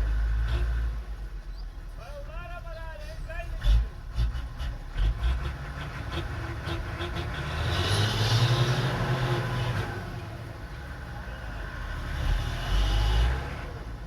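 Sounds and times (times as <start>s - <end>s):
truck engine under strain: 0.0s - 14.0s.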